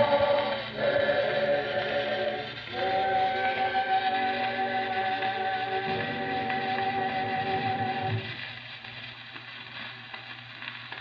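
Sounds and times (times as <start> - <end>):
record playing on phonograph: 0.0 - 11.0.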